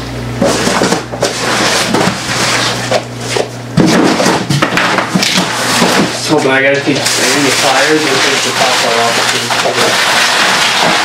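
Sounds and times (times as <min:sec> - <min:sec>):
objects rustling and clattering: 0:00.4 - 0:11.0.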